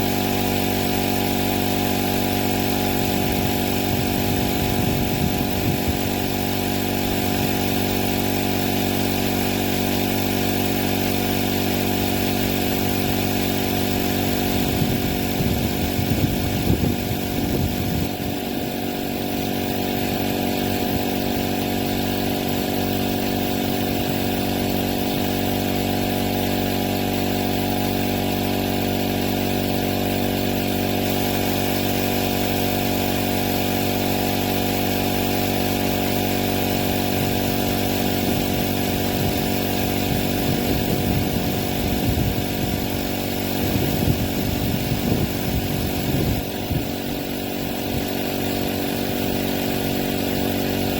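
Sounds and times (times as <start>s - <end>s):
air compressor pump humming: 0.0s - 50.9s.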